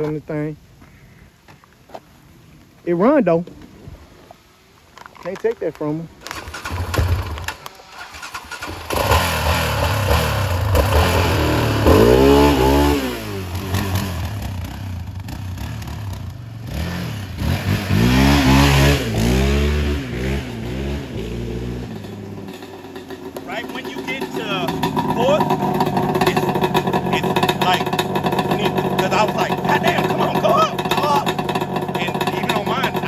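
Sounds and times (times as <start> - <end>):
quad engine revving: 6.3 - 33.0.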